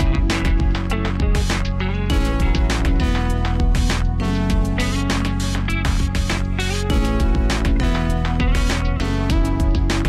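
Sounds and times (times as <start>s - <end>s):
instrumental music over beat: 0.0s - 10.0s.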